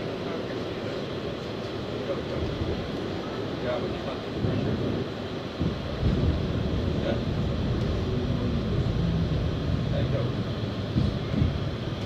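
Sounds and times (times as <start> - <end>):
subway wheels rumbling on rails: 0.0 - 12.0.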